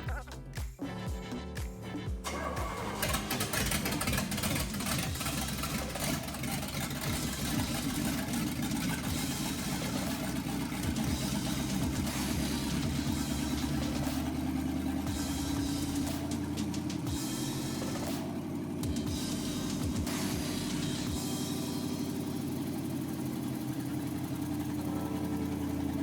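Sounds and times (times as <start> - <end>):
car engine idling: 2.2 - 26.0.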